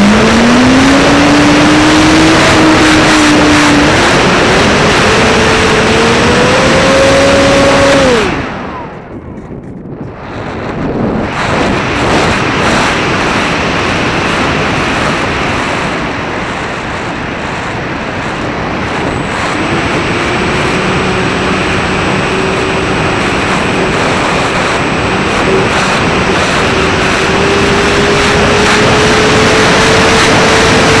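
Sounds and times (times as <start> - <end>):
model plane propeller hum: 0.0 - 31.0
wind rushing over camera: 0.0 - 31.0.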